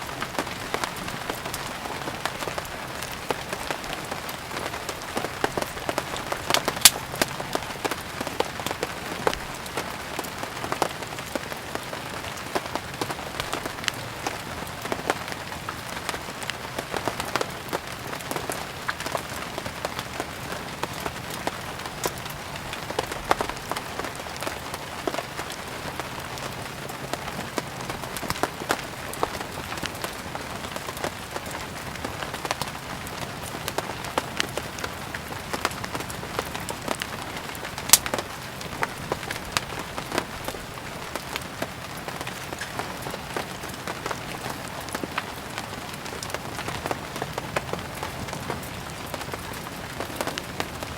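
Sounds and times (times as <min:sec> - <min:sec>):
firewood crackling and popping: 0:00.0 - 0:50.9
steady rain: 0:00.0 - 0:50.9.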